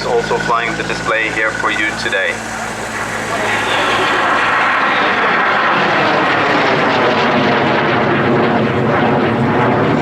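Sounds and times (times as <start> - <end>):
jet flying past: 0.0 - 10.0.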